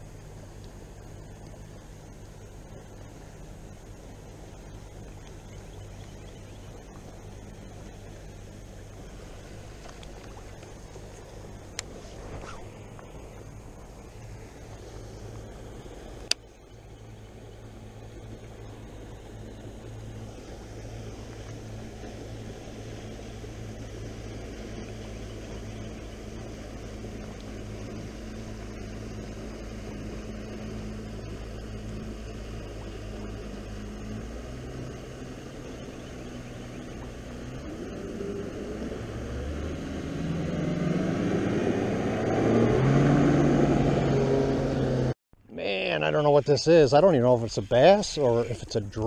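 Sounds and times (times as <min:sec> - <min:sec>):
motorboat engine droning: 0:00.0 - 0:49.0.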